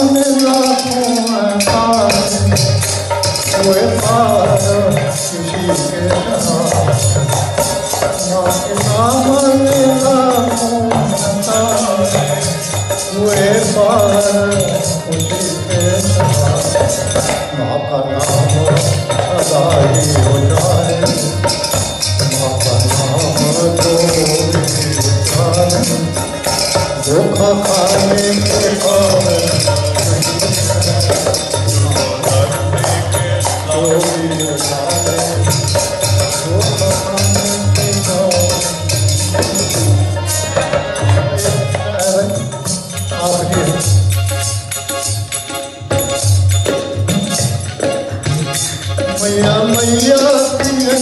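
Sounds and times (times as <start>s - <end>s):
shaker percussion: 0.0s - 17.6s, 18.2s - 51.0s
man singing into a microphone: 0.0s - 51.0s.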